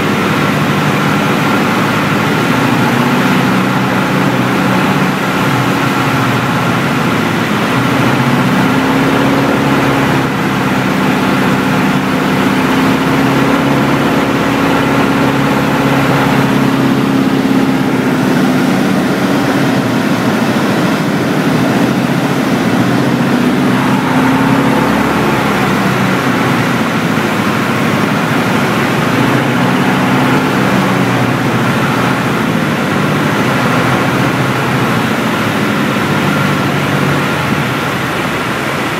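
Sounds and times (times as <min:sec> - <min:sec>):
light aircraft engine in cabin: 0:00.0 - 0:38.9.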